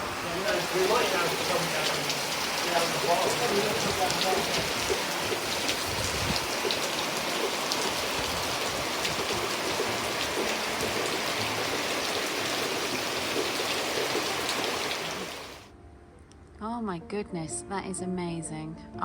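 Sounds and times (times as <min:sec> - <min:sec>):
heavy rain falling: 0:00.0 - 0:15.6
raindrops clicking close by: 0:00.0 - 0:15.6.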